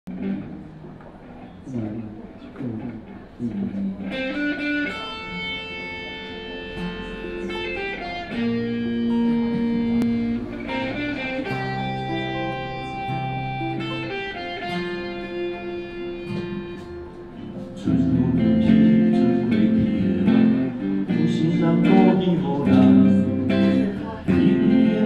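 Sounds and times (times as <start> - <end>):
slow guitar melody: 0.1 - 25.0.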